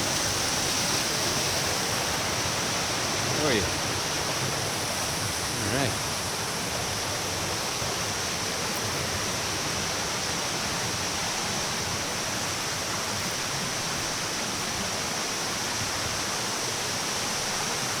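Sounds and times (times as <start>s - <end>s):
waterfall rushing over rocks: 0.0s - 18.0s.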